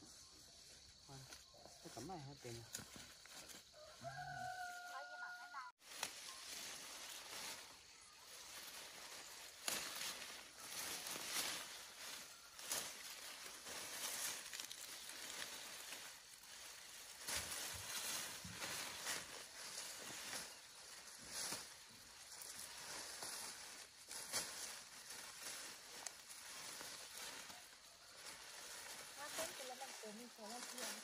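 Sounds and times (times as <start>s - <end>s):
vines and leaves rustling: 0.0s - 31.0s.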